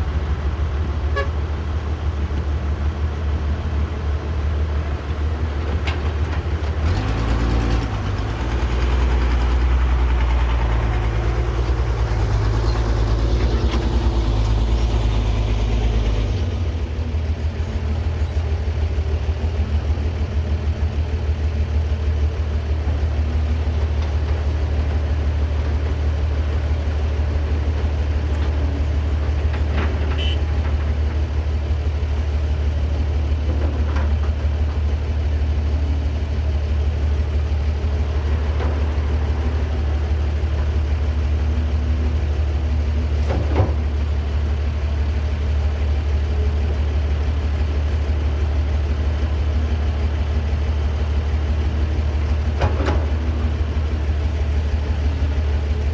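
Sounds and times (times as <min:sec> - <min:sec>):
excavator diesel engine under load: 0:00.0 - 0:55.9.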